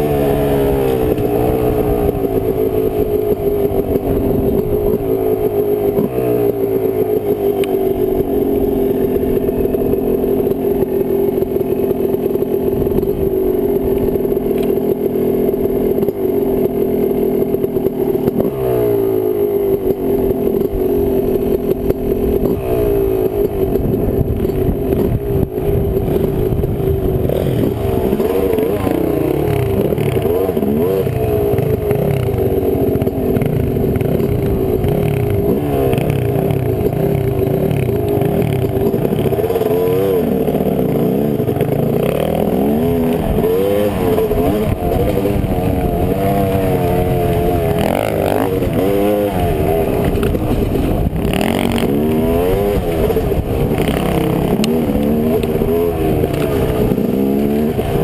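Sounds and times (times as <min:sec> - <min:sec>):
two-stroke dirt bike engine: 0:00.0 - 0:58.0.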